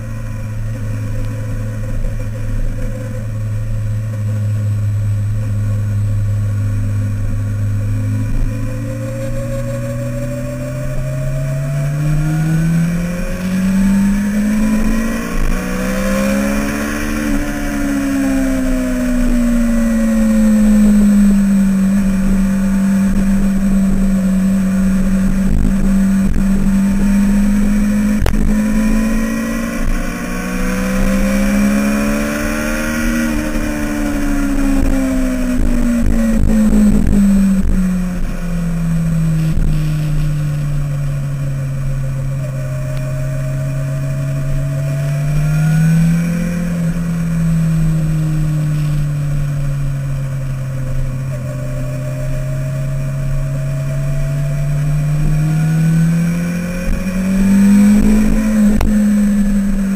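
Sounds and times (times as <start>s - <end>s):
car engine pulling hard: 0.0s - 59.9s.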